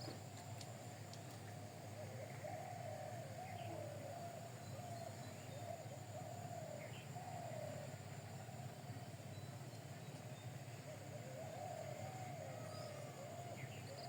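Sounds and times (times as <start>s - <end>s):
continuous wavering tone: 0.0s - 14.0s
low steady hum: 0.0s - 14.0s.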